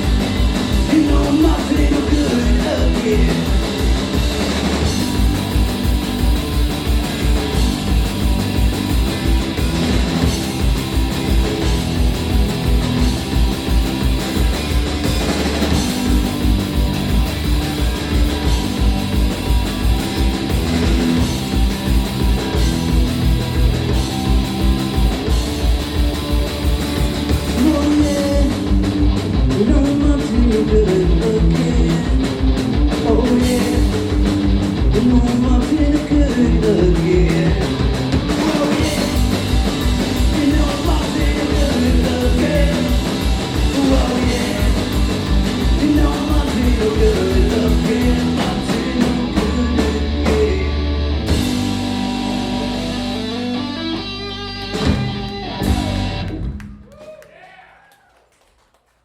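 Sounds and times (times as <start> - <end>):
punk rock band playing live: 0.0 - 56.8.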